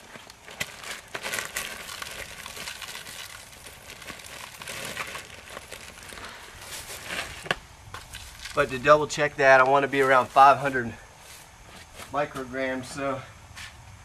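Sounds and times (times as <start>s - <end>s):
crinkling: 0.0s - 12.4s.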